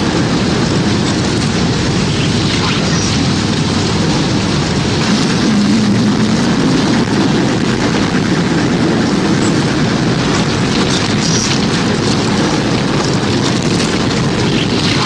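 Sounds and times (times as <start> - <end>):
tornado wind rushing: 0.0 - 15.0.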